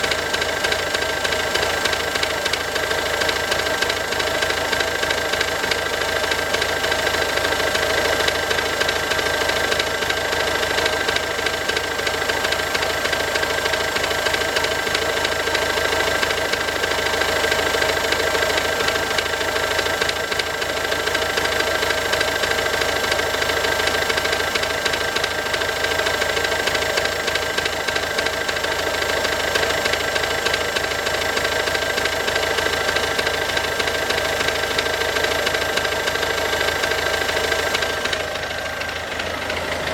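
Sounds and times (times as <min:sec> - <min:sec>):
diesel engine idling: 0:00.0 - 0:39.9
engine knocking rattle: 0:00.0 - 0:39.9.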